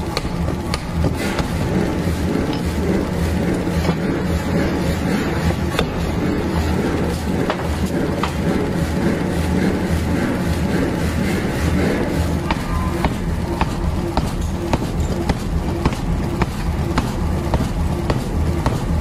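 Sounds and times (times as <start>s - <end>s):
low rumble of forge machinery: 0.0s - 19.0s.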